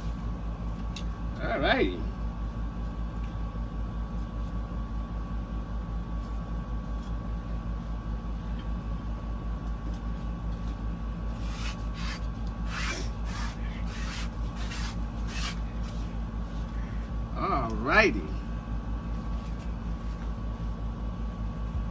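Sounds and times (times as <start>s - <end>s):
steady low pulsing hum: 0.0s - 21.9s.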